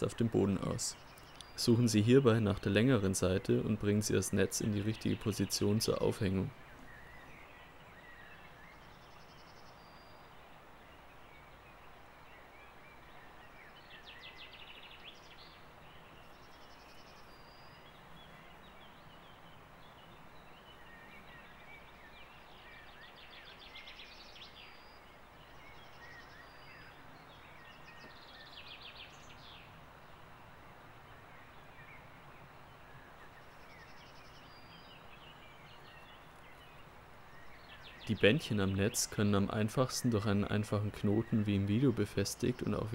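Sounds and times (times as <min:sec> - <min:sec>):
birds whistling and trilling: 0:00.0 - 0:30.2, 0:31.1 - 0:42.9.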